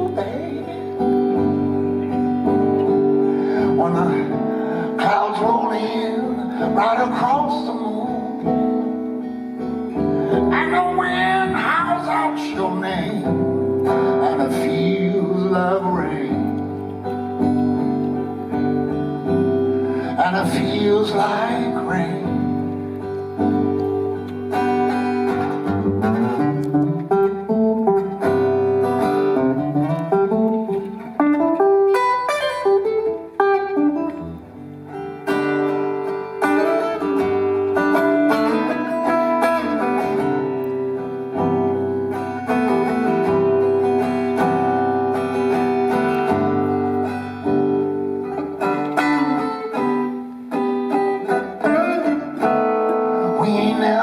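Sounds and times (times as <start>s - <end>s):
live band with plucked guitar: 0.0s - 54.0s.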